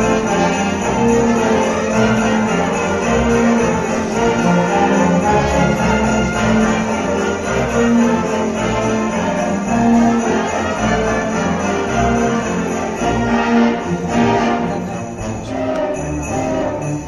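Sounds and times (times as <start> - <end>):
brass: 0.0 - 17.0
orchestra and wind ensemble playing: 0.0 - 17.0
sleigh bells shaking: 0.0 - 17.0.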